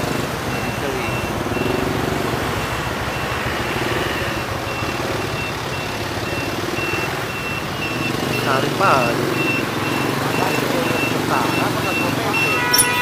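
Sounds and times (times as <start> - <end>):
city traffic: 0.0 - 13.0
vehicle engine running: 0.0 - 13.0.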